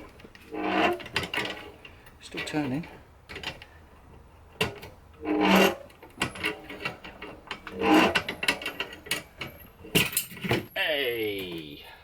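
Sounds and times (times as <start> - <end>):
metal scraping: 0.0 - 10.8
shock absorber threads creaking: 0.0 - 10.8.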